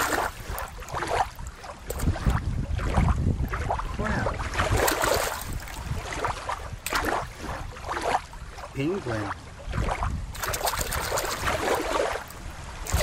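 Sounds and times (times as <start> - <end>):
water sloshing in plastic pool: 0.0 - 13.0
wind rumbling on microphone: 0.0 - 13.0.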